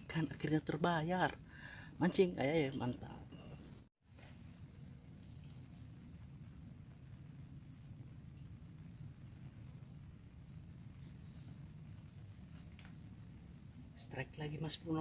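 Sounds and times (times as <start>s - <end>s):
insect trill: 0.0s - 15.0s
pulsed cricket chirps: 0.0s - 15.0s.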